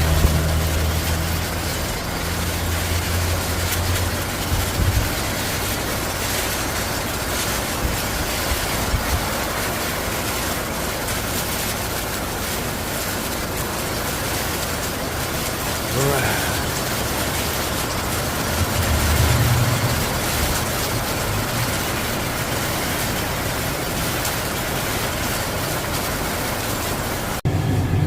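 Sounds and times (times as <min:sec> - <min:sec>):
bus engine humming: 0:00.0 - 0:28.0
heavy rain hissing: 0:00.0 - 0:28.0.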